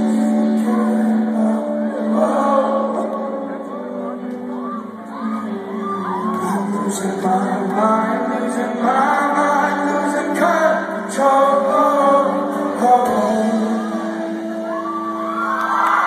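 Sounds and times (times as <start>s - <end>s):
person singing: 0.0s - 15.7s.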